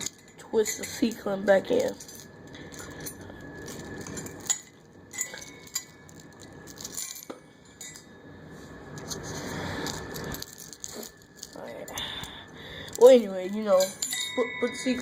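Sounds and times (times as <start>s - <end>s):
metal chain clinking: 0.0s - 8.2s, 9.0s - 15.0s.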